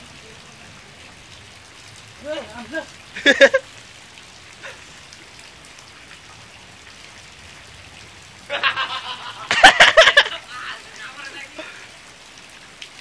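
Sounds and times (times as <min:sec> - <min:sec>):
faint water hiss: 0:00.0 - 0:13.0.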